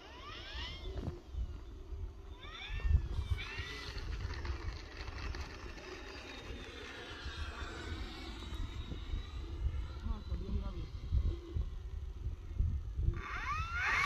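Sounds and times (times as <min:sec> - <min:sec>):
model plane motor whine: 0:00.0 - 0:14.0
wind rumbling on microphone: 0:00.0 - 0:14.0.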